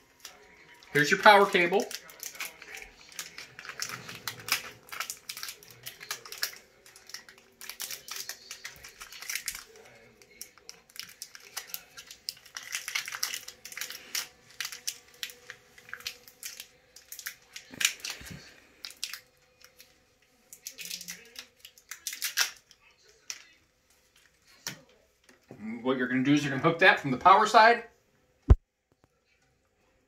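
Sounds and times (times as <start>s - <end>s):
plastic wrapping crinkling: 0.0s - 25.4s.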